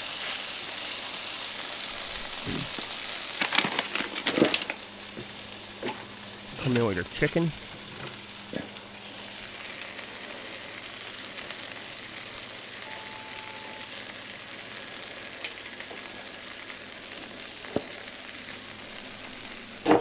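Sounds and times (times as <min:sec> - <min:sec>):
tortillas sizzling in a pan: 0:00.0 - 0:20.0.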